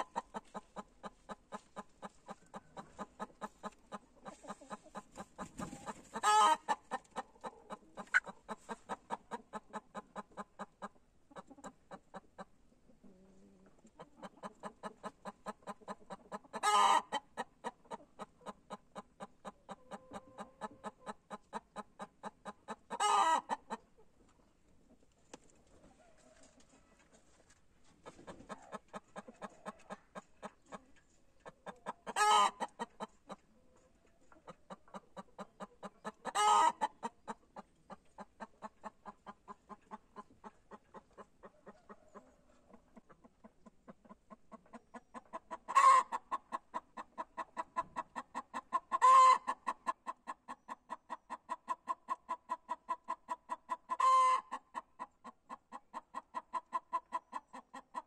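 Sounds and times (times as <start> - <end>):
hen clucking: 0.0 - 58.0.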